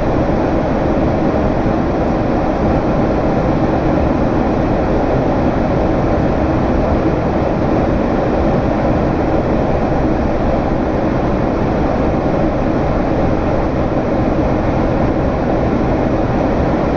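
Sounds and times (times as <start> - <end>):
jet engines droning: 0.0 - 16.9.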